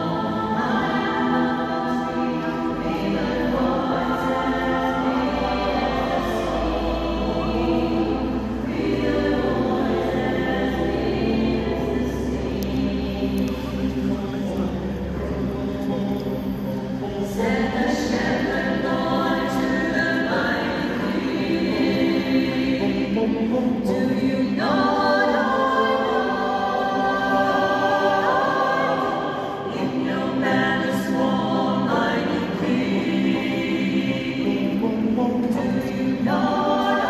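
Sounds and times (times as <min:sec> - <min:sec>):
choir singing a cappella: 0:00.0 - 0:37.0.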